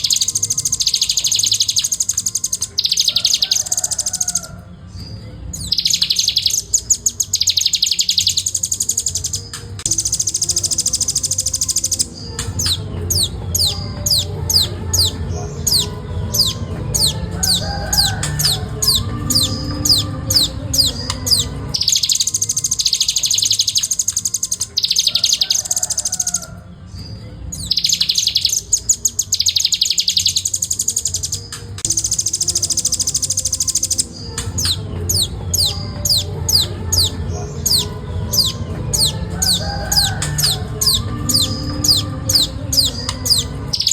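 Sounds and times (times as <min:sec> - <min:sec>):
bird whistling and trilling: 0:00.0 - 0:26.5, 0:27.5 - 0:43.9.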